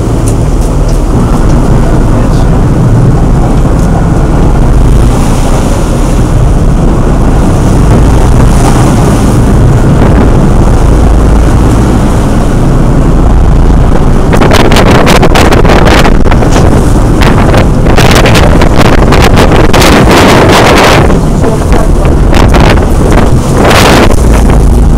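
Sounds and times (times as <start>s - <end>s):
motorboat engine running: 0.0s - 24.9s
wind buffeting microphone: 0.0s - 24.9s.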